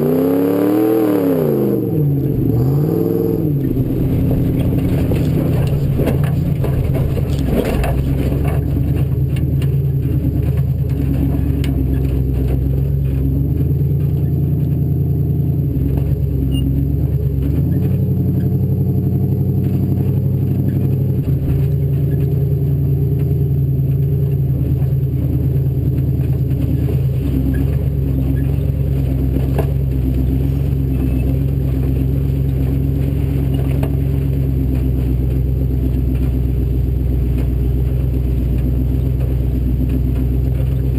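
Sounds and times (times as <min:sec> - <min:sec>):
off-road engine revving: 0:00.0 - 0:40.9
vehicle clatter over rough ground: 0:00.0 - 0:40.9.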